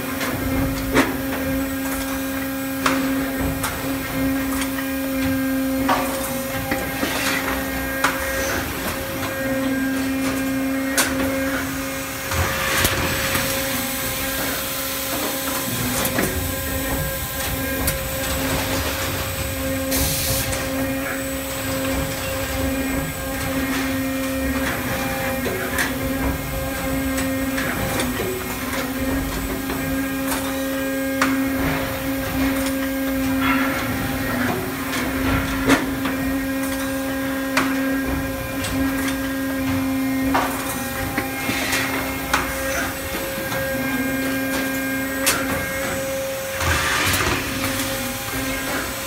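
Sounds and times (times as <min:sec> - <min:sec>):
machine humming with high tone: 0:00.0 - 0:49.0.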